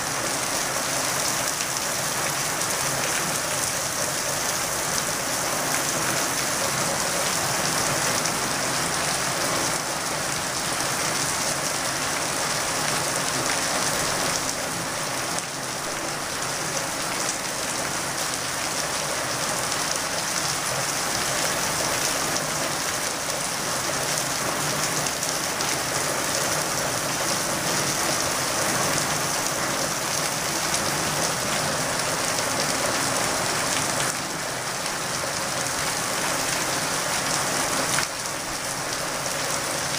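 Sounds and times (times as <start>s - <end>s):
rain on wet pavement: 0.0s - 39.9s.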